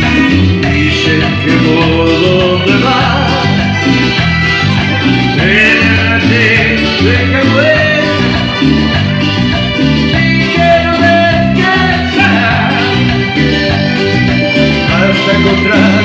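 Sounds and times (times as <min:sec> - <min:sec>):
latin dance music with singing: 0:00.0 - 0:16.0.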